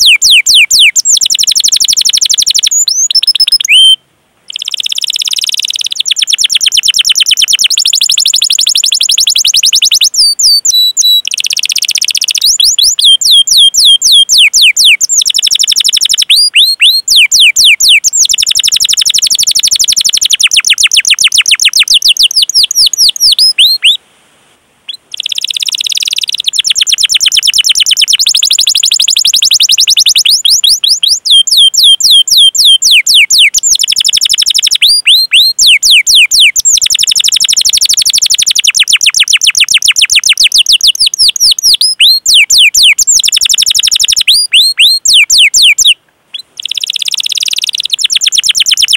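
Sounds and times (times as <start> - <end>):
canary chirping runs: 0.0 - 23.9, 24.9 - 48.9.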